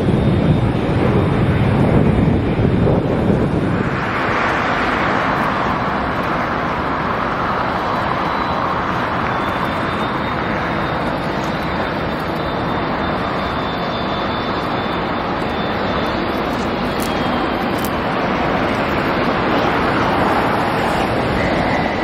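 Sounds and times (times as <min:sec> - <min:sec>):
high fan whine: 0:00.0 - 0:22.0
jet engine rush: 0:00.0 - 0:22.0.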